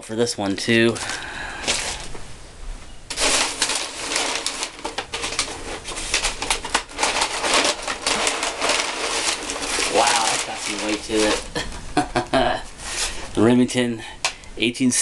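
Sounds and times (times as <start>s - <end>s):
packing paper crackling: 0.6s - 2.2s, 3.1s - 13.5s.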